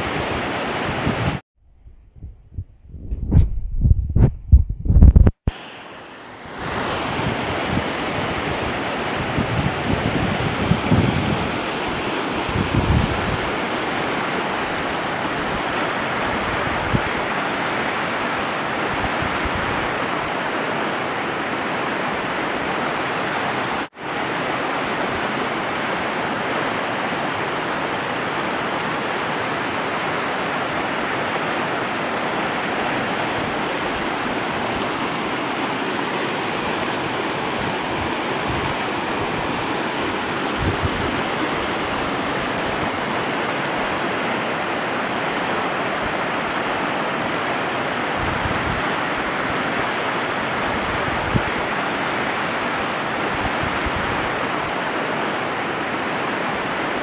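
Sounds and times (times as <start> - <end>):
river rushing over rocks: 0.0 - 1.4, 5.5 - 57.0.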